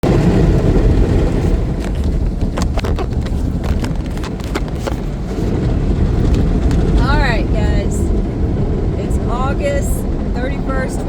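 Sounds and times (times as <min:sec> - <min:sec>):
car wash low rumble: 0:00.0 - 0:11.0.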